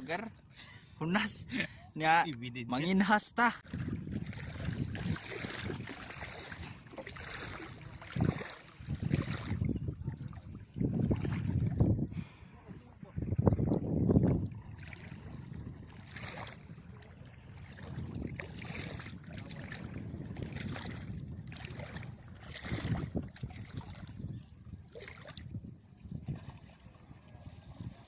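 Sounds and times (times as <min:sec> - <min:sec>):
feet sloshing through water: 0:03.6 - 0:28.0
wind rumbling on microphone: 0:03.6 - 0:28.0.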